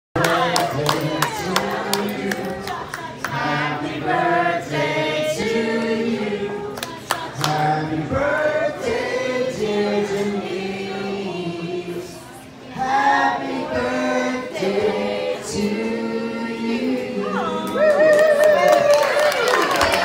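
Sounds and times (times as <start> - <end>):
people singing along: 0.2 - 18.0.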